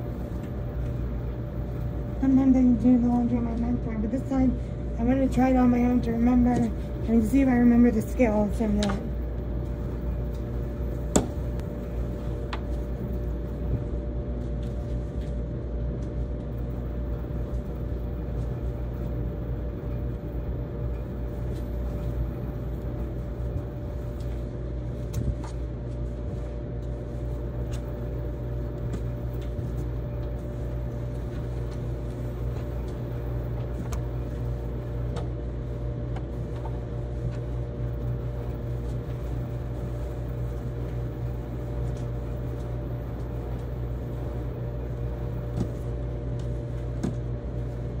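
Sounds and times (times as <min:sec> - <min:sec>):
tumble dryers humming: 0:00.0 - 0:48.0.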